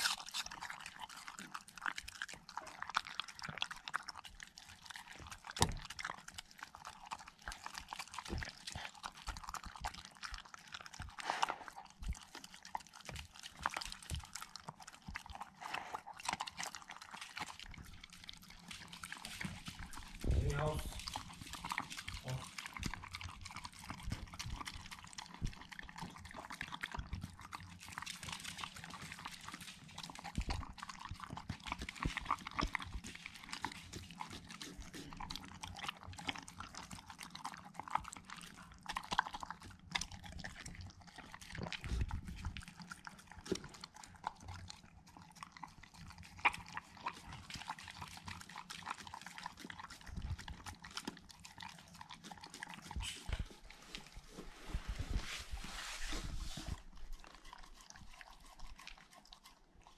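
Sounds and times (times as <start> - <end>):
dog chewing and slurping food: 0.0 - 59.9.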